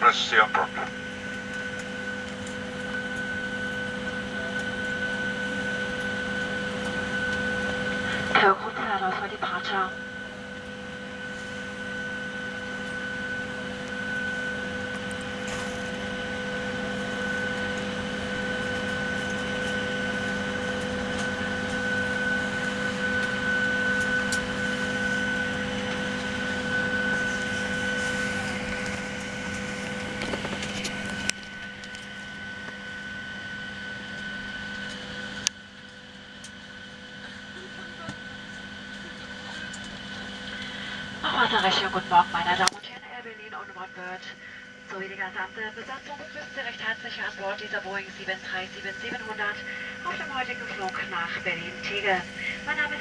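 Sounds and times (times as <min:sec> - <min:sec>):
air-conditioning whine and hiss: 0:00.0 - 0:53.0.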